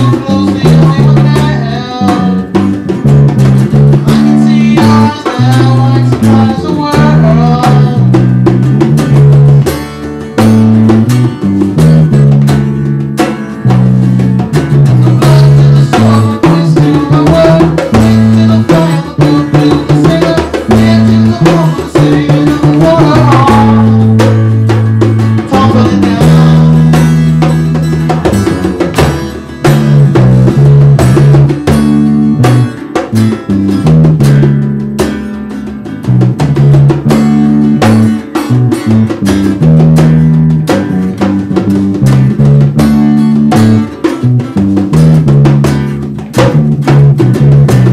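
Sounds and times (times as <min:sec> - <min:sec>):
electric bass long low notes: 0:00.0 - 0:35.1, 0:36.0 - 0:47.9
hand drum beat: 0:00.0 - 0:47.9
strummed acoustic guitar: 0:00.0 - 0:47.9.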